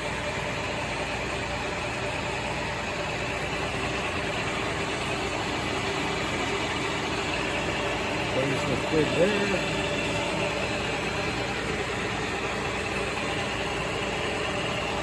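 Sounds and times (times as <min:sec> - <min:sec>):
lathe running with mechanical hum: 0:00.0 - 0:15.0.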